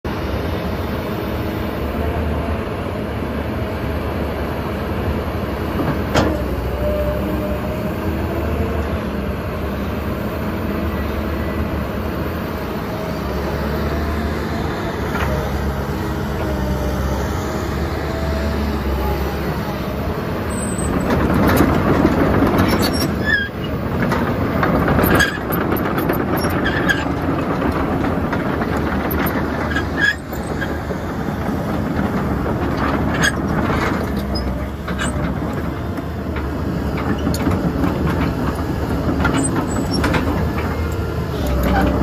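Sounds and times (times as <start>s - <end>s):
excavator engine and hydraulics: 0.1s - 42.0s.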